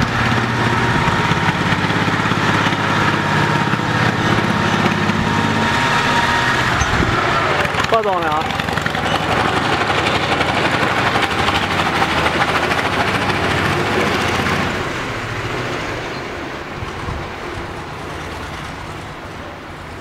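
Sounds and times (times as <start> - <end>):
small truck engine running: 0.0 - 20.0.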